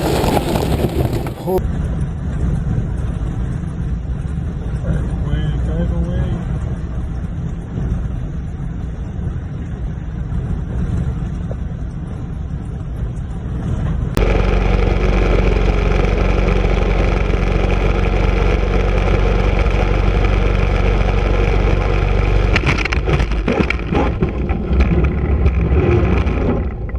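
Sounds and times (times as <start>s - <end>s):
aircraft low rumble: 0.0s - 26.9s
wind on microphone: 0.0s - 26.9s
aircraft engine drone: 1.4s - 25.8s.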